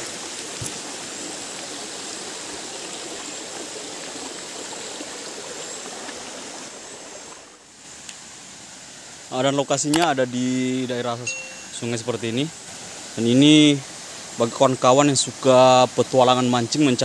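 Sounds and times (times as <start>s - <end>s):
river water over stones: 0.0s - 17.0s.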